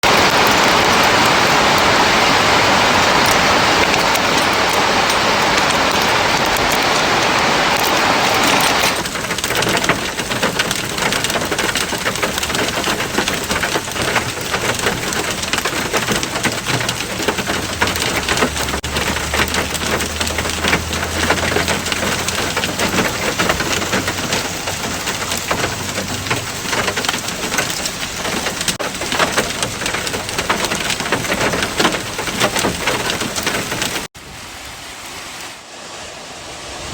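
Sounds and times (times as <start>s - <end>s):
hail strikes: 0.0s - 34.1s
thunder rumble: 0.0s - 34.1s
heavy rain hiss: 0.0s - 36.9s.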